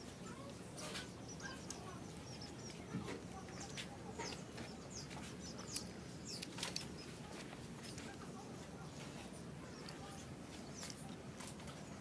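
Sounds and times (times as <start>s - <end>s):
birds chirping: 0.0s - 12.0s
steady background noise: 0.0s - 12.0s.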